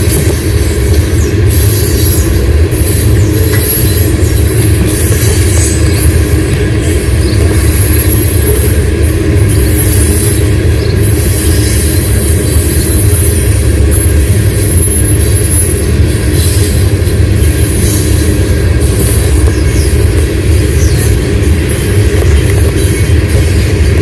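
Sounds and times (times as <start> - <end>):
freight train rumbling past: 0.0 - 24.0
high wheel squeal: 0.0 - 24.0.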